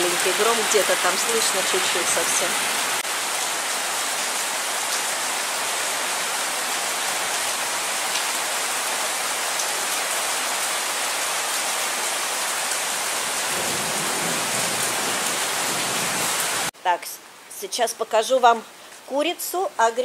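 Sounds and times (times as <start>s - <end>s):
heavy rain hissing: 0.0s - 16.7s.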